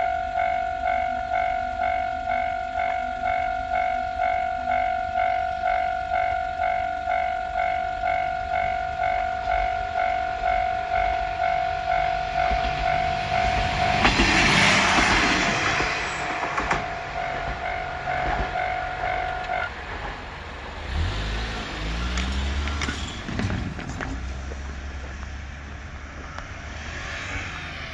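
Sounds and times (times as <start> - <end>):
level-crossing warning bell: 0.0 - 23.3
passing train: 0.0 - 27.9.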